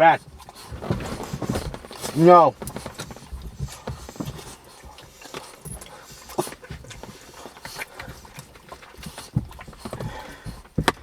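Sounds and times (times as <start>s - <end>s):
dogs eating clicks and knocks: 0.0s - 11.0s.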